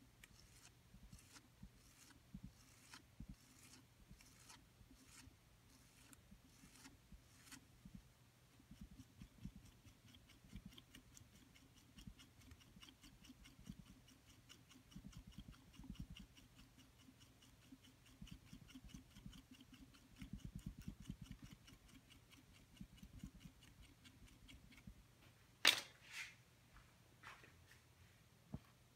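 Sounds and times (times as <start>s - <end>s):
hand tool scraping clay: 0.0s - 8.0s, 8.6s - 24.9s.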